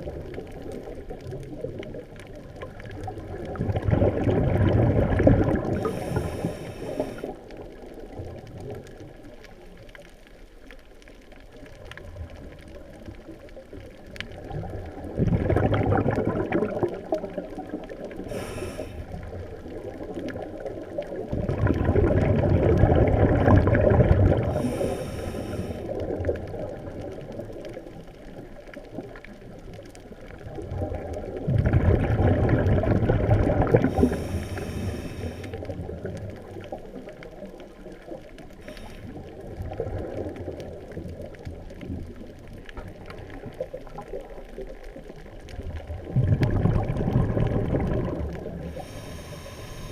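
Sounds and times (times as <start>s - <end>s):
regulator bubbles gurgling underwater: 0.0s - 49.9s.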